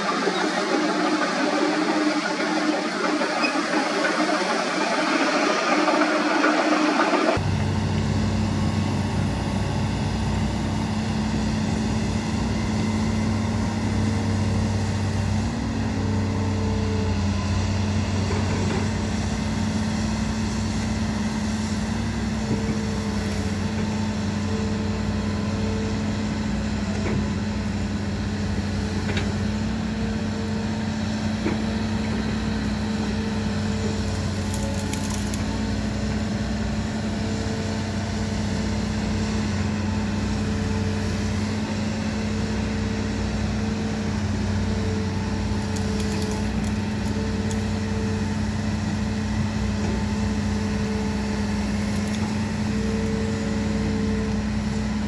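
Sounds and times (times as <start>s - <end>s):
excavator diesel engine drone: 0.0s - 55.0s.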